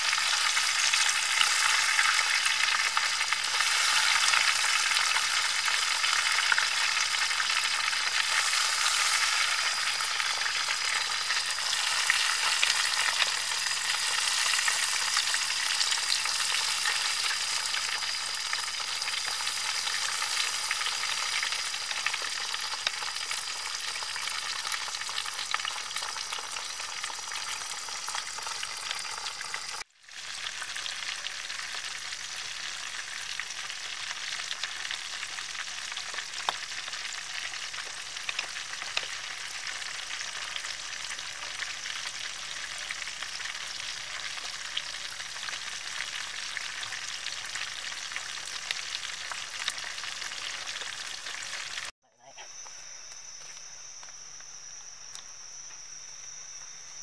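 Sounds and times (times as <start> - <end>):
chicken sizzling in oil: 0.0 - 52.0.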